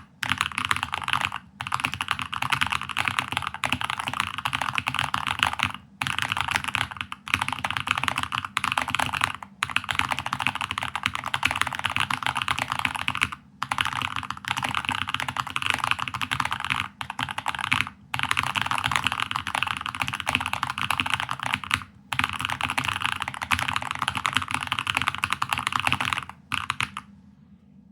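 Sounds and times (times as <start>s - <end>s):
mechanical keyboard typing: 0.0s - 27.1s.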